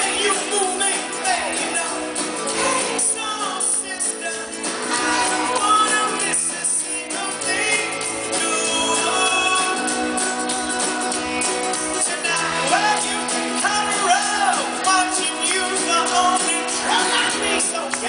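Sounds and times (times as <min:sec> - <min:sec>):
man singing: 0:00.0 - 0:18.0
pop-rock band playing: 0:00.0 - 0:18.0.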